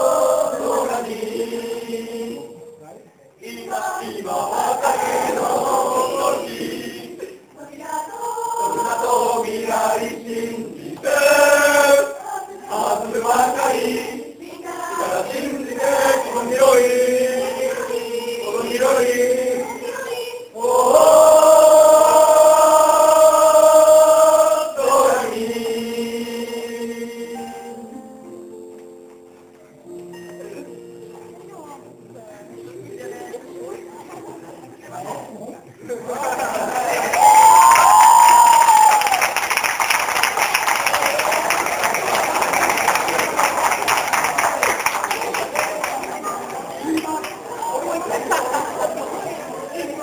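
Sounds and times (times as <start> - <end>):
mixed choir singing: 0.0 - 28.0, 35.0 - 50.0.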